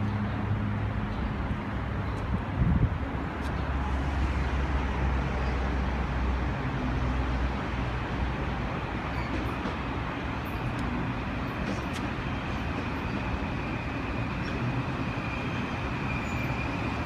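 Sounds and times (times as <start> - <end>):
electric train running past: 3.0 - 17.0.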